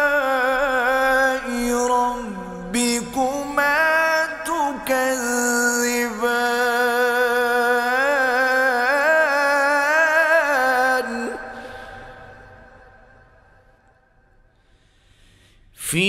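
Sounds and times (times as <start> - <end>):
man chanting melodically: 0.0 - 12.8, 15.8 - 16.0.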